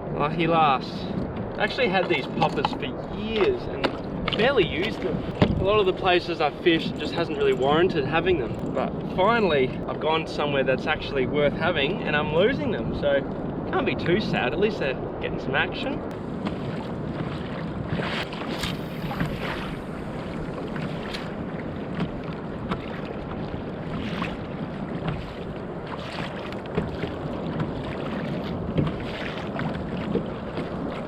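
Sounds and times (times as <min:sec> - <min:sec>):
water lapping around kayak: 0:00.0 - 0:31.0
wind on microphone: 0:00.0 - 0:31.0.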